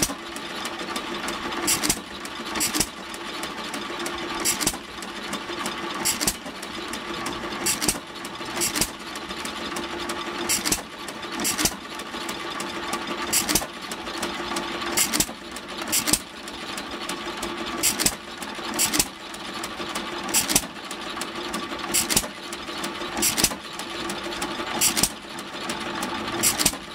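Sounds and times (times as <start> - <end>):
mechanical clatter and hum: 0.0 - 26.9.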